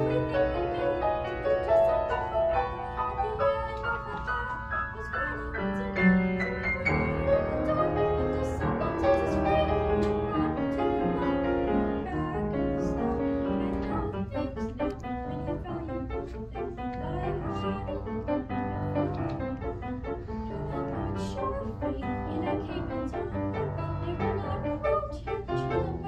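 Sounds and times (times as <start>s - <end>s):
girl singing: 0.0s - 26.0s
piano accompaniment: 0.0s - 26.0s.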